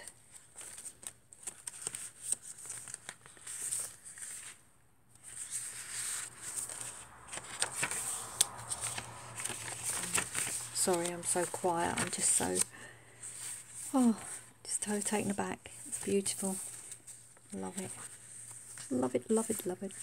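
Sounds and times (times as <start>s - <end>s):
paper rustling and crackling: 0.0s - 20.0s.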